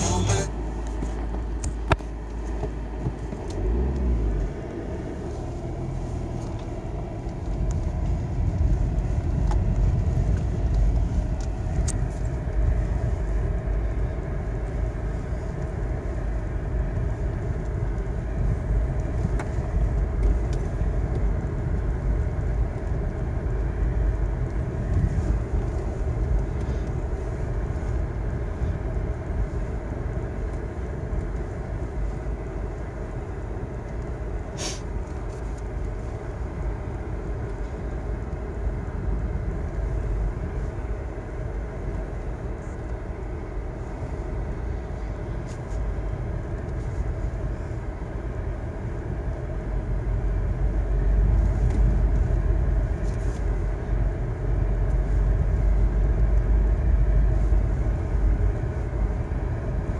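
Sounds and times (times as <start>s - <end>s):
car rumbling on dirt track: 0.0s - 59.9s.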